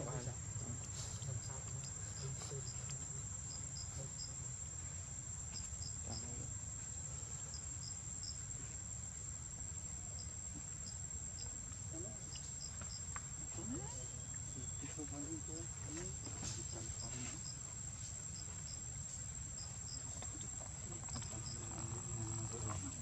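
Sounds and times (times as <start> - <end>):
cricket trill: 0.0 - 23.0.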